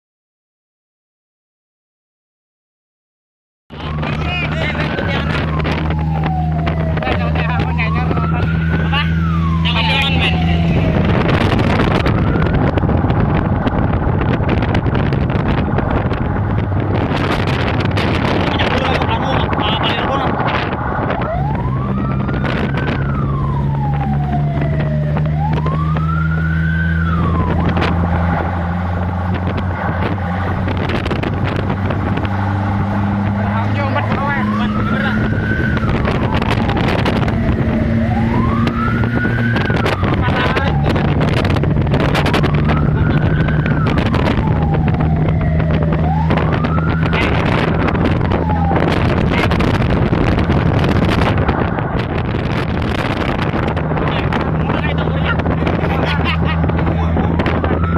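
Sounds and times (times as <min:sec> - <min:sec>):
fire engine siren wailing: 0:03.7 - 0:57.9
truck engine hum: 0:03.7 - 0:57.9
wind buffeting microphone: 0:03.7 - 0:57.9.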